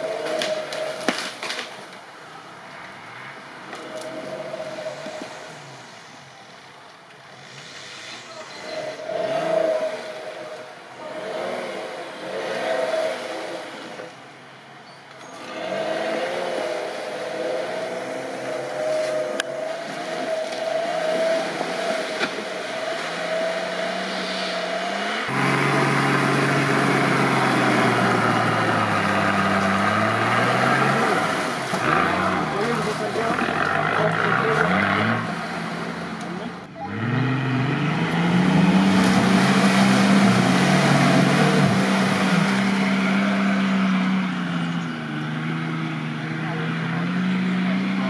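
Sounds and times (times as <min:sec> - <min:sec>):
engine revving: 0:07.3 - 0:14.1, 0:15.3 - 0:48.0.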